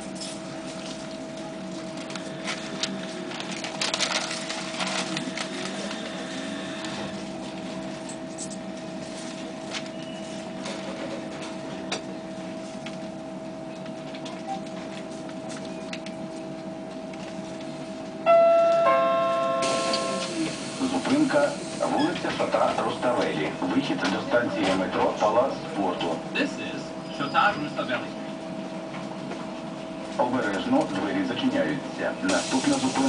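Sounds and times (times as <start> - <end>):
trolleybus electrical whine: 0.0 - 33.0.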